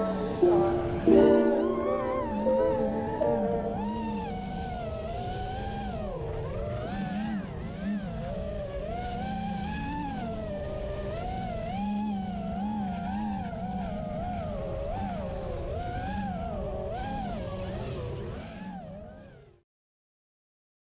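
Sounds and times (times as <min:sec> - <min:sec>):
quadcopter motors whining: 0:00.0 - 0:19.6.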